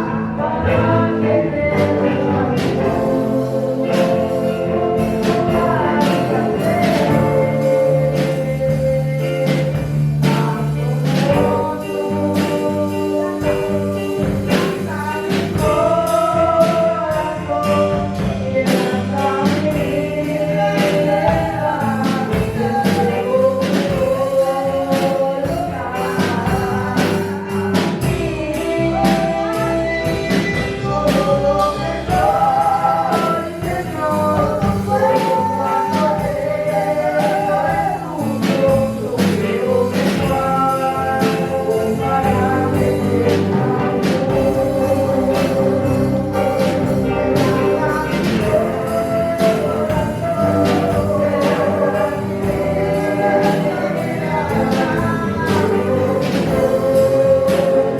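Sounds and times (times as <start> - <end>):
group of voices singing gospel: 0.0 - 57.9
instrumental accompaniment: 0.0 - 57.9
steady percussive beat: 1.7 - 57.9.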